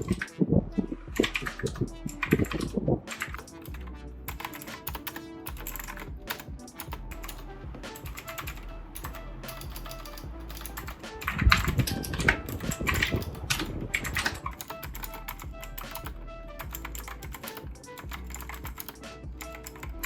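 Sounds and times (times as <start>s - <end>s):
background music: 0.0s - 20.0s
mechanical keyboard typing: 1.2s - 7.4s, 8.0s - 20.0s.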